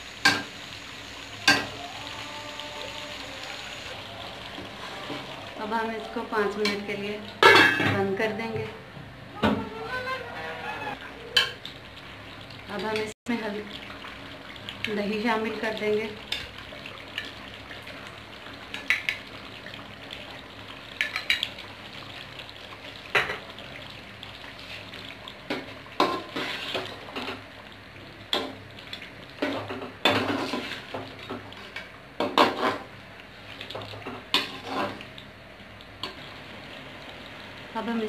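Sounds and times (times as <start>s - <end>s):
sizzling in pot: 0.0s - 38.0s.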